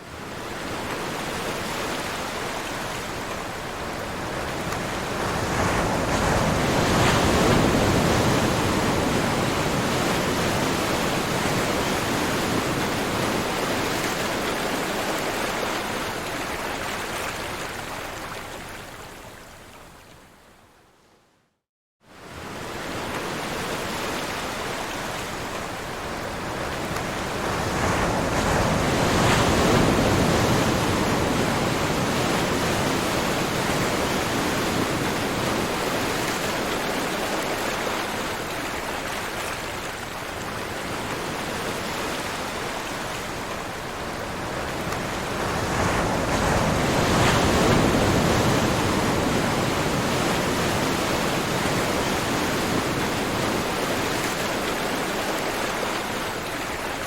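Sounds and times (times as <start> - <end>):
ocean waves washing: 0.0 - 19.2, 22.2 - 57.0.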